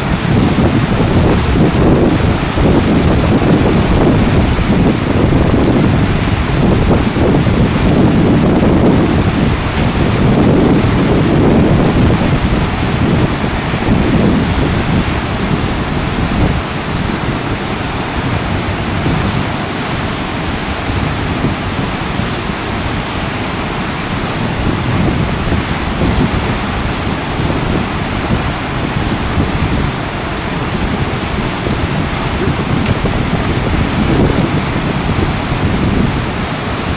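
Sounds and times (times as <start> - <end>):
whitewater rapids rushing: 0.0 - 36.9
wind buffeting microphone: 0.0 - 36.9.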